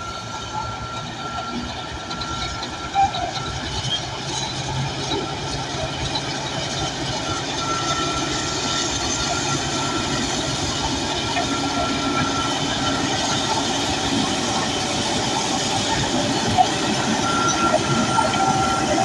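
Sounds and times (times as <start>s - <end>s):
bulldozer diesel engine under load: 0.0s - 19.0s
steel tracks clanking: 0.0s - 19.0s.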